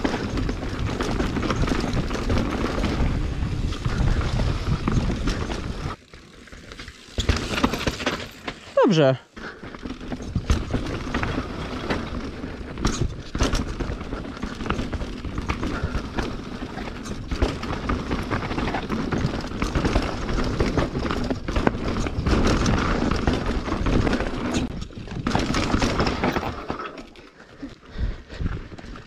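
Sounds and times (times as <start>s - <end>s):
bike knocks and rattles: 0.0s - 8.8s, 9.4s - 27.2s
bike tyres over dirt and stones: 0.0s - 29.0s.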